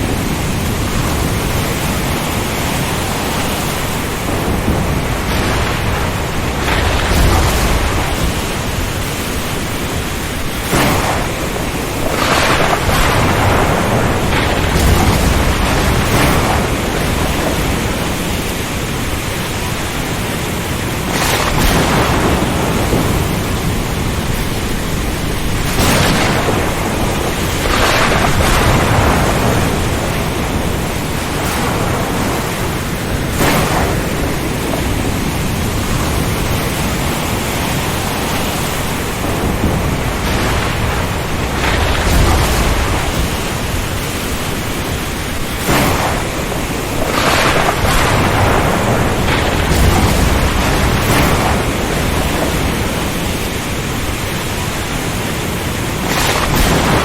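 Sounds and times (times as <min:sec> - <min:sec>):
ocean surges: 0:00.0 - 0:57.0
wind and rain roaring: 0:00.0 - 0:57.0.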